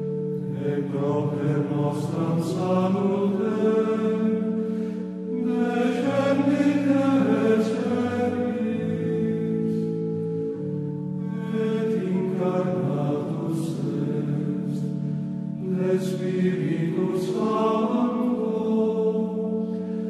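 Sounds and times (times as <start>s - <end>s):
voices chanting sacred music: 0.0s - 20.0s.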